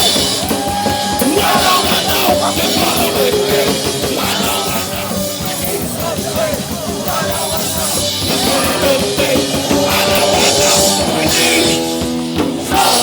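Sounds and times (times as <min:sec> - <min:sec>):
hardcore punk band playing: 0:00.0 - 0:13.0.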